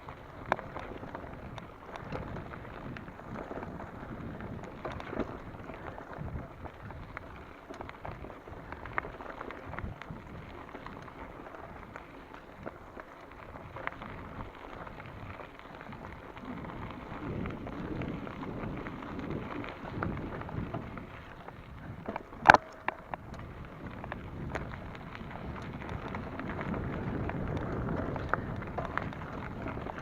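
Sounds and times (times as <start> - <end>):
bike frame rattling: 0.0 - 30.0
bike tyres crunching on gravel: 0.0 - 30.0
wind rumbling on microphone: 0.0 - 30.0.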